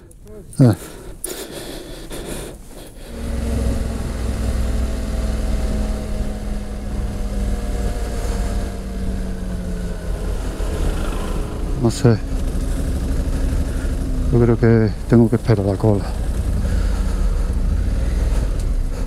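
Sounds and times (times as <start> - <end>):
motorcycle engine running: 3.1 - 19.0.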